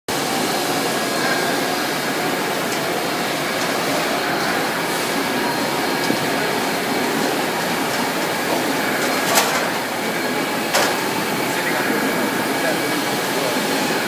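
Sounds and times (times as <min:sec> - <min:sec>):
factory machinery noise: 0:00.1 - 0:14.0.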